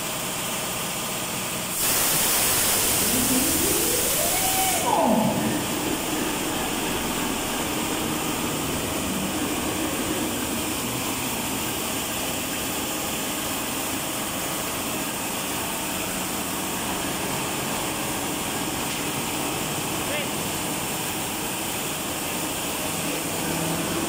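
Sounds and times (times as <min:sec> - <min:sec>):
marine diesel engine running: 0:02.6 - 0:24.0.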